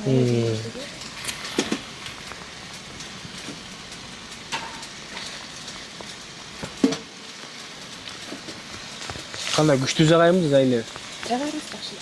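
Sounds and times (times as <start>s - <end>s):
rain pattering on a tent: 0.0s - 12.0s.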